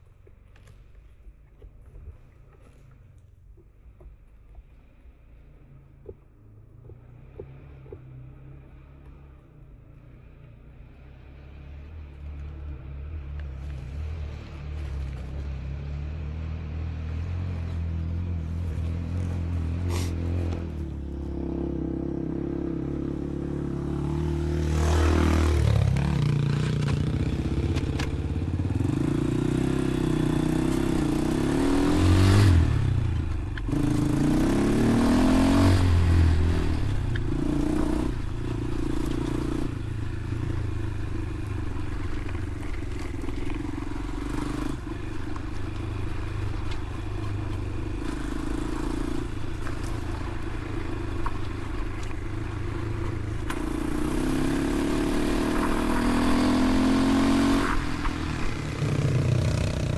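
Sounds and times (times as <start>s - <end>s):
motorcycle engine revving: 10.9s - 59.9s.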